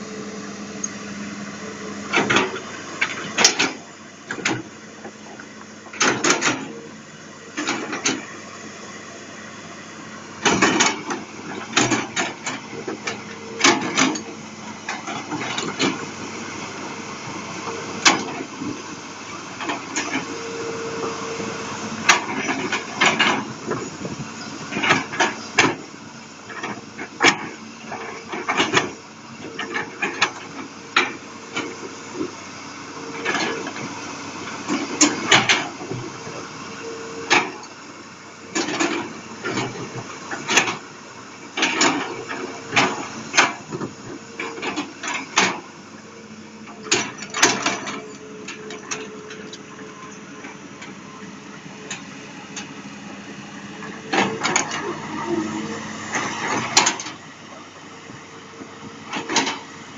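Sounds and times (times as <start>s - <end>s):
diesel engine hum: 0.0s - 59.9s.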